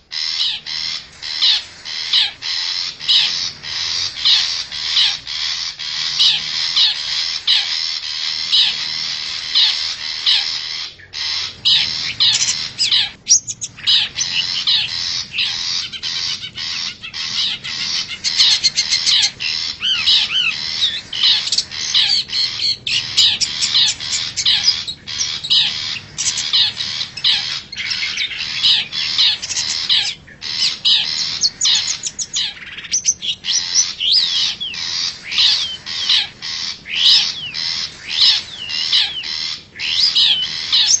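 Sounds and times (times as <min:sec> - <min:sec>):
shrike calling with whistled slurs: 0:00.0 - 0:41.0.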